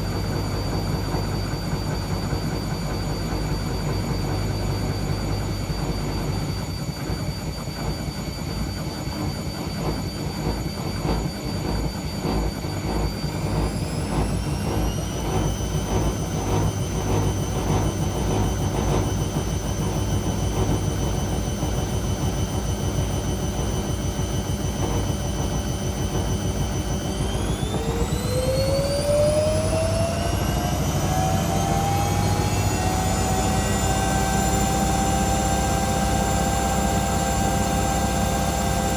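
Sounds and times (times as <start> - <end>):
washing machine spinning whine: 0.0 - 38.9.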